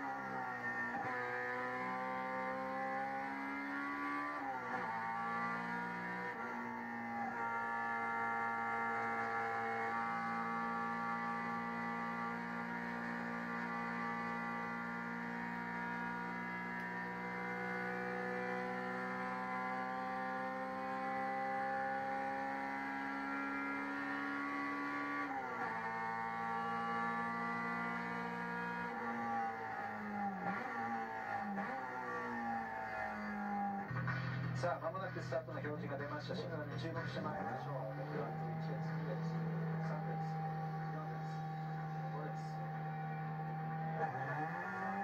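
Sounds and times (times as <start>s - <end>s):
race car engine at high revs: 0.0s - 45.0s.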